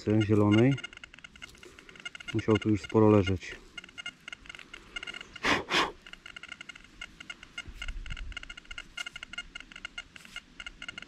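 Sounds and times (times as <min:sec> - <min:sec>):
rapid electronic beeping: 0:00.0 - 0:11.0.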